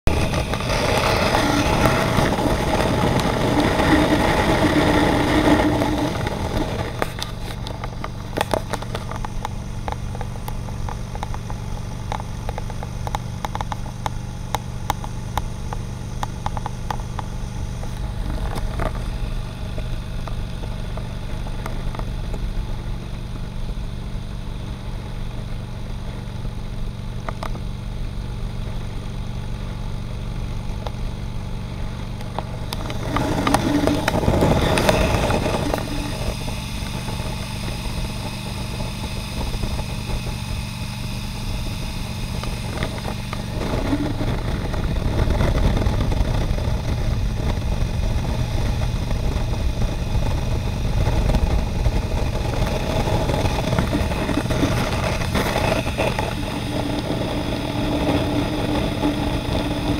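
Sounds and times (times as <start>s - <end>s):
motorcycle engine drone: 0.0s - 59.9s
wind and road noise: 0.0s - 59.9s.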